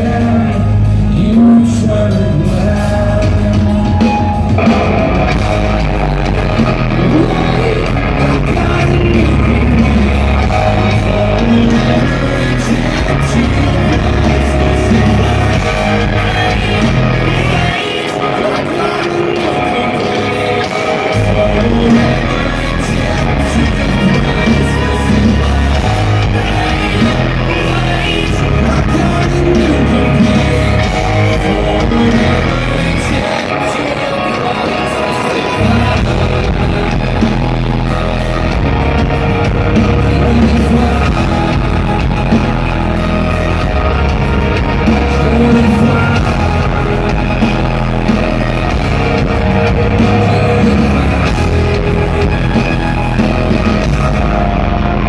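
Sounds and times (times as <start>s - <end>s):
drums: 0.0s - 55.0s
electric guitars: 0.0s - 55.0s
person singing: 0.0s - 55.0s.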